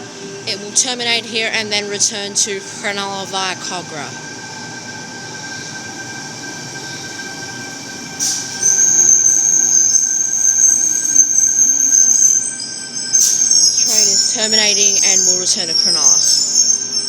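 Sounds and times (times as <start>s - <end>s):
electric train whine: 0.0s - 17.0s
high-pitched brake squeal: 0.1s - 17.0s.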